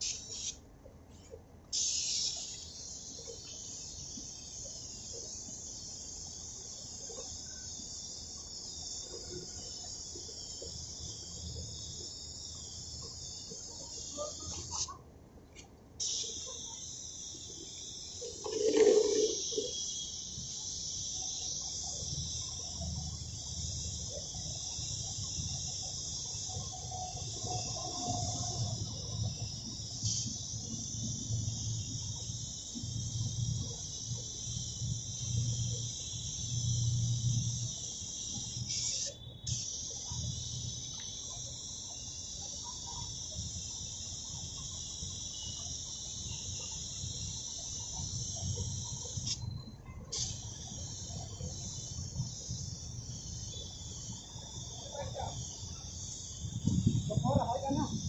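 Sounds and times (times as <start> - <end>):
spray gun hissing: 0.0 - 0.6, 1.7 - 15.0, 16.0 - 42.5, 50.1 - 58.0.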